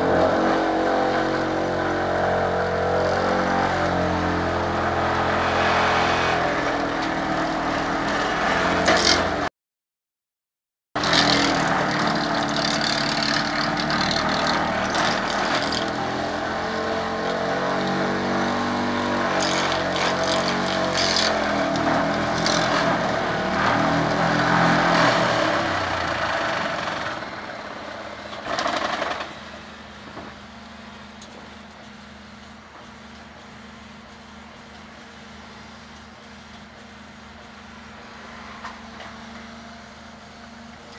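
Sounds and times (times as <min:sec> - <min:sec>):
excavator engine running: 0:00.0 - 0:09.5, 0:11.0 - 0:40.9.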